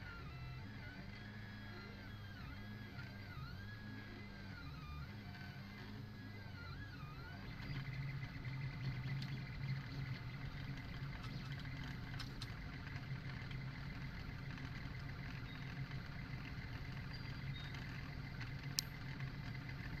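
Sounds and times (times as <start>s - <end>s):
printer motors humming: 0.0s - 20.0s.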